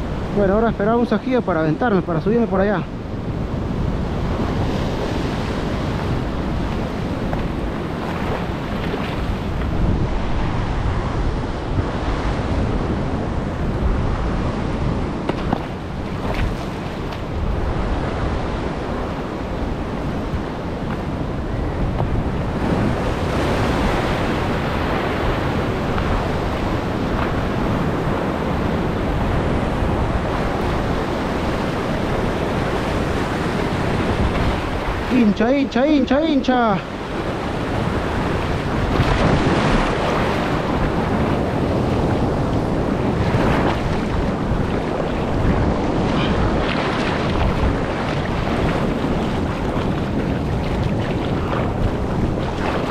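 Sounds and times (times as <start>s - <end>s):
surf washing against rocks: 0.0s - 52.9s
wind buffeting microphone: 0.0s - 52.9s.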